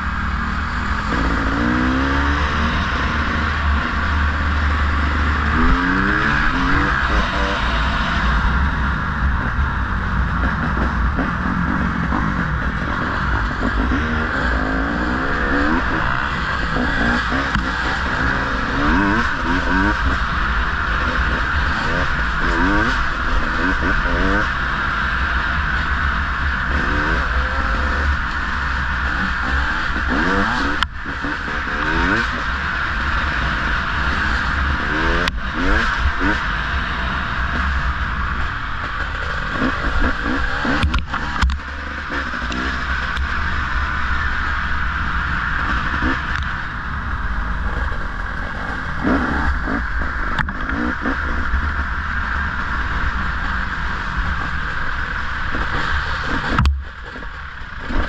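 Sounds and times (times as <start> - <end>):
off-road motorcycle engine revving: 0.0 - 58.0.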